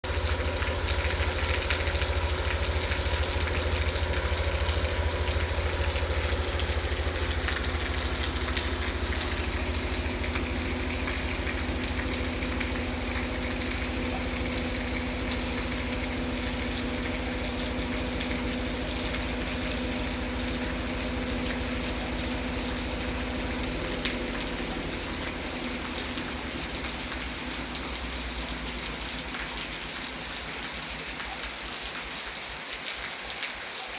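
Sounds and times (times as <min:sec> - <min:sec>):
low mechanical hum: 0:00.0 - 0:32.8
heavy rain falling: 0:00.1 - 0:33.9.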